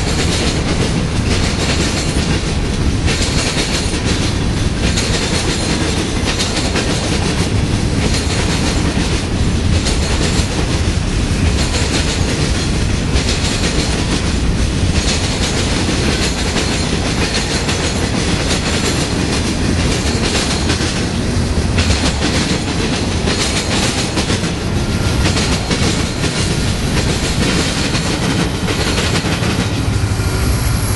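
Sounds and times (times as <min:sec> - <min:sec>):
wheels clattering over rails: 0:00.0 - 0:30.1
freight train rumbling past: 0:00.0 - 0:30.9.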